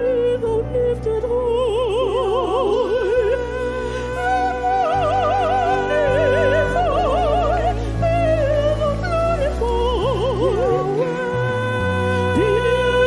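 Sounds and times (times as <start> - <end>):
person singing wordless long notes: 0.0 - 13.0.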